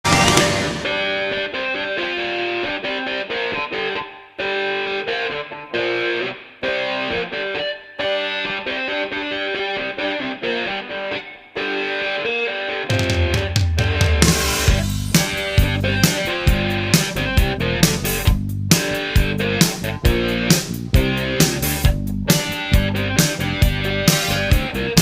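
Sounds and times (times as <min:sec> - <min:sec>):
distorted electric guitar riff: 0:00.0 - 0:25.0.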